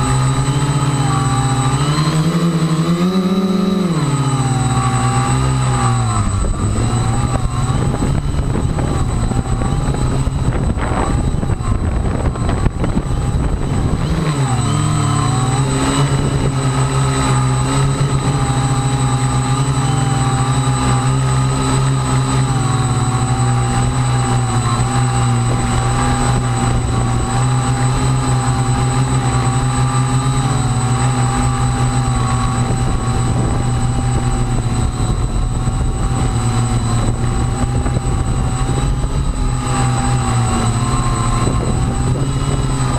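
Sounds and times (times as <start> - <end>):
propellers whining: 0.0 - 42.9
wind buffeting microphone: 0.0 - 42.9.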